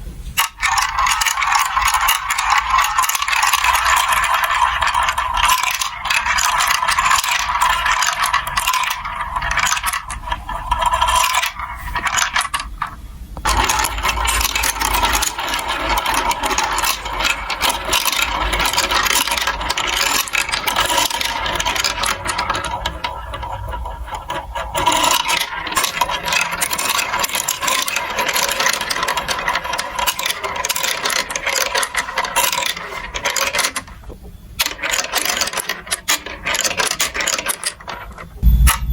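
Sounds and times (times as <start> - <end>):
marbles rattling through a plastic run: 0.4 - 38.4.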